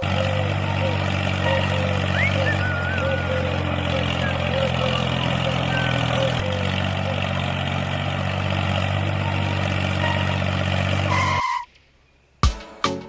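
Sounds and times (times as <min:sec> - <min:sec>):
small engine droning: 0:00.0 - 0:12.1.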